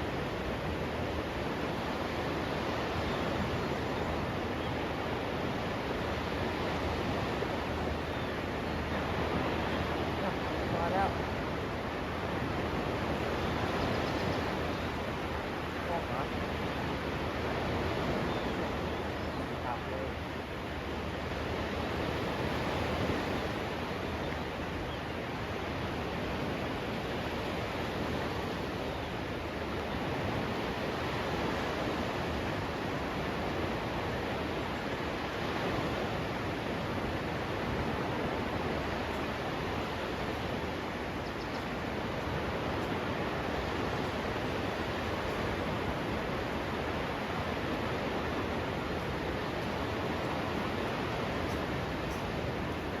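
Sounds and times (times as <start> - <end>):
sea surf rushing: 0.0 - 53.0
wind on beach: 0.0 - 53.0.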